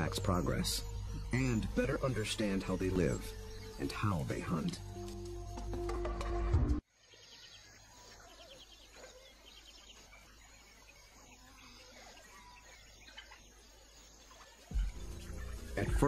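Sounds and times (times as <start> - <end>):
distant bird calls: 0.0 - 16.0
insects: 0.0 - 16.0.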